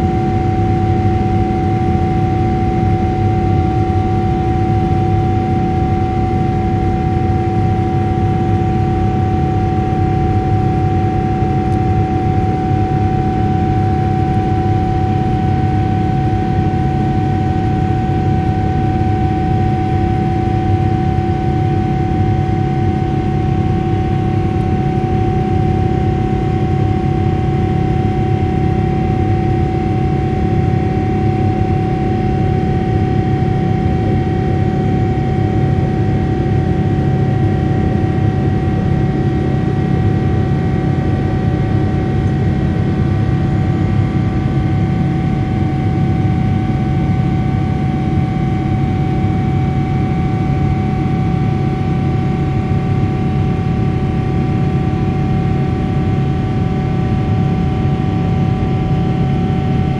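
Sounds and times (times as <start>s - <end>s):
engine whine: 0.0s - 59.9s
jet engine roar in cabin: 0.0s - 59.9s.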